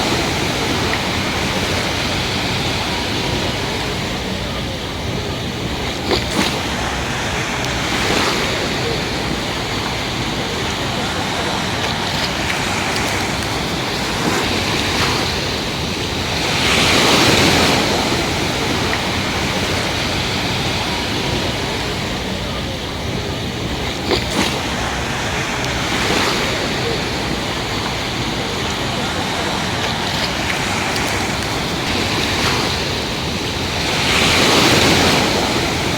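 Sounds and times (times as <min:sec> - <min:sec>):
surf washing onto beach: 0:00.0 - 0:35.9
wave breaking: 0:00.0 - 0:35.9.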